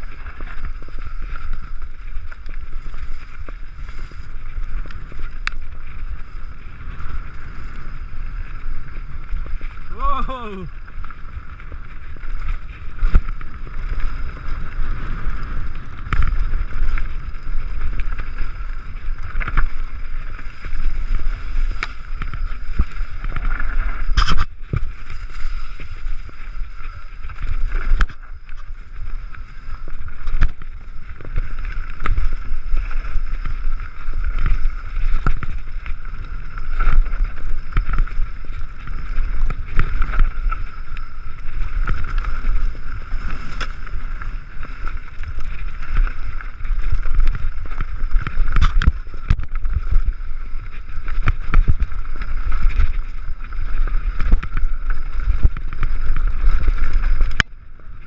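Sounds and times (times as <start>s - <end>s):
tyres rolling on dirt: 0.0s - 57.5s
wind buffeting microphone: 0.0s - 58.0s.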